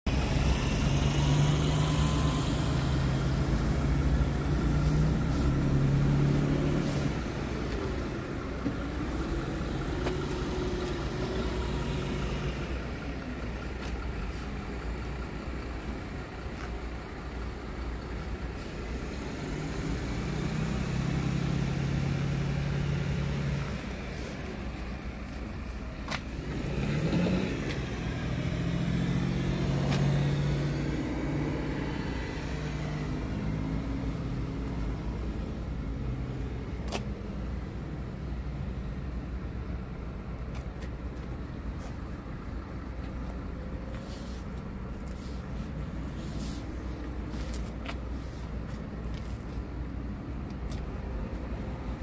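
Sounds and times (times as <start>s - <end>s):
diesel truck engine idling: 0.1s - 26.7s, 32.2s - 52.0s.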